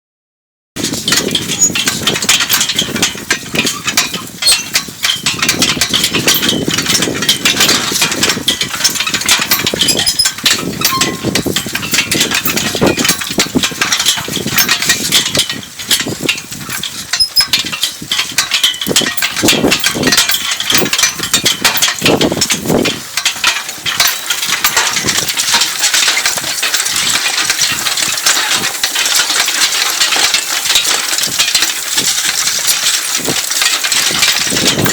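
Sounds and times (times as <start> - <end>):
metallic rattling of cultivator: 0.8 - 34.9
harness clinking: 0.9 - 34.9.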